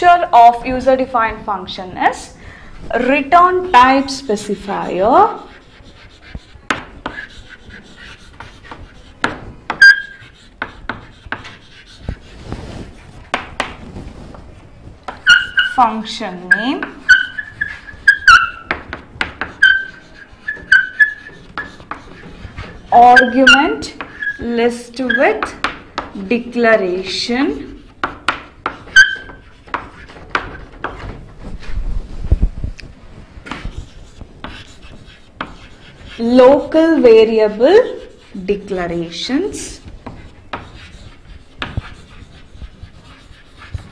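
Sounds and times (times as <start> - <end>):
chalk tapping and scratching: 0.0 - 43.9
chalk squeak: 4.5 - 14.4, 15.1 - 31.7, 33.5 - 43.9.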